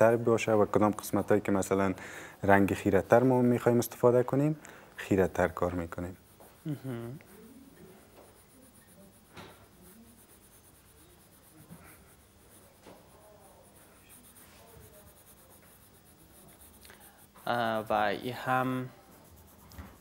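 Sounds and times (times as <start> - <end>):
pencil scratching on paper: 0.0 - 20.0.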